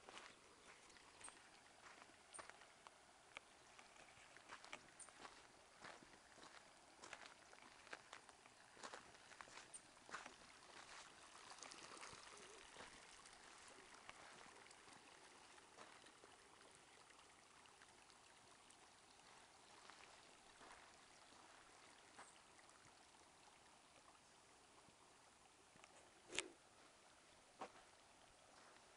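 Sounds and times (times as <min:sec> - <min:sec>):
stream rushing over gravel: 0:00.0 - 0:28.9.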